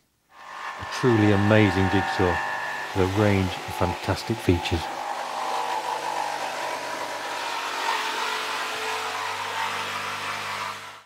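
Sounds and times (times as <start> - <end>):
jigsaw cutting wood: 0.3 - 11.0.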